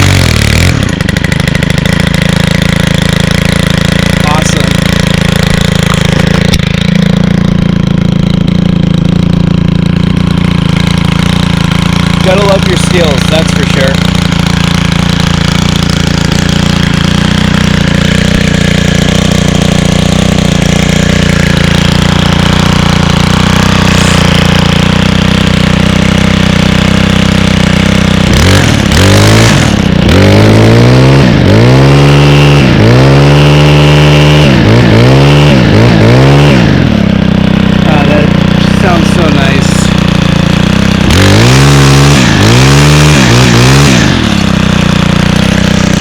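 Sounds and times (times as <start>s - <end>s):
string trimmer engine revving: 0.0s - 46.0s.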